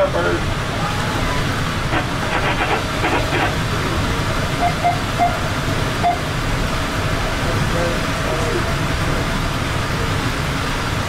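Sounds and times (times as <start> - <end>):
commuter train rumbling: 0.0 - 11.0.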